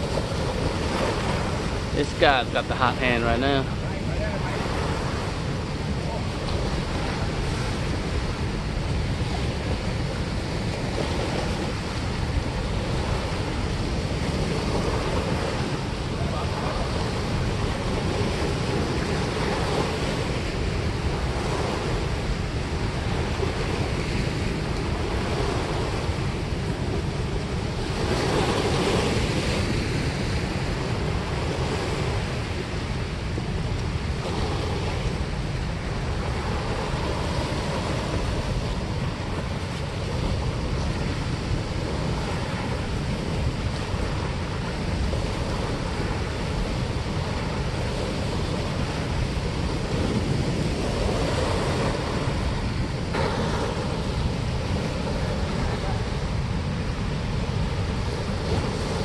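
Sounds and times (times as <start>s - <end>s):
turbulent water roaring: 0.0s - 59.0s.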